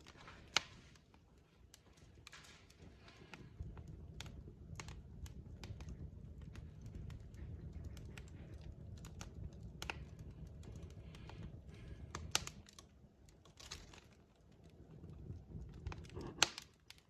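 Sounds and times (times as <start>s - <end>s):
burning logs popping: 0.0s - 17.0s
low rumble of flame: 0.0s - 17.0s
wood fire crackling: 0.0s - 17.0s.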